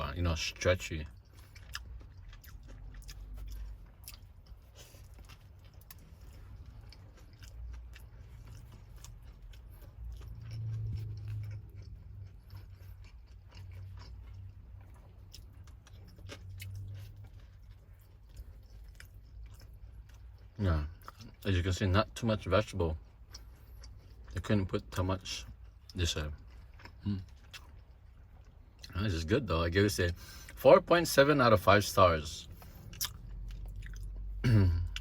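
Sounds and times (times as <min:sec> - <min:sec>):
person chewing sandwich: 0:00.2 - 0:29.4, 0:32.0 - 0:35.0.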